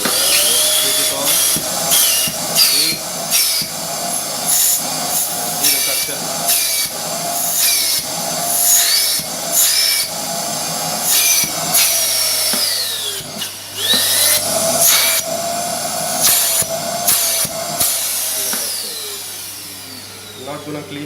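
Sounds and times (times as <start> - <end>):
whistling hiss at vacuum intake: 0.0 - 10.2, 11.0 - 15.2, 16.2 - 21.0
vacuum cleaner running: 0.0 - 21.0.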